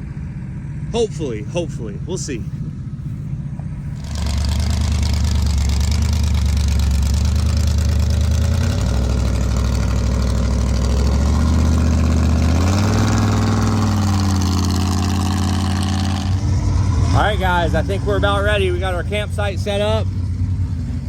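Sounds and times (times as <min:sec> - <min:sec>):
large engine idling and revving: 0:00.0 - 0:21.0.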